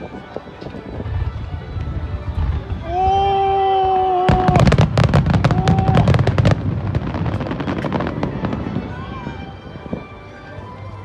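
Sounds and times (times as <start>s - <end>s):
fireworks crackling and popping: 0.0s - 10.1s.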